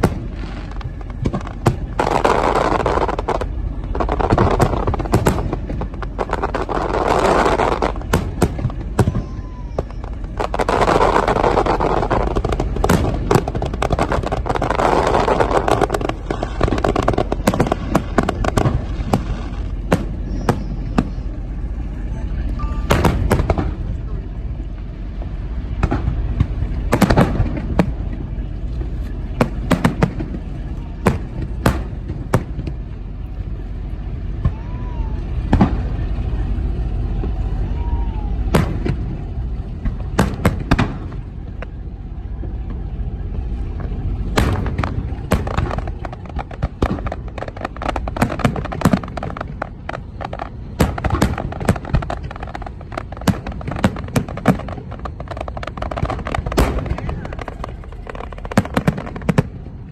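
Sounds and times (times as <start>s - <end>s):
fireworks booms and cracks: 0.0s - 59.9s
fireworks crackling: 0.0s - 59.9s.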